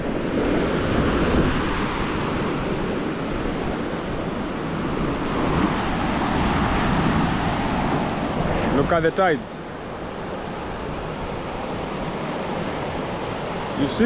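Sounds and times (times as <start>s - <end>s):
surf washing up a beach: 0.0s - 14.0s
wind rumbling on microphone: 0.0s - 14.0s.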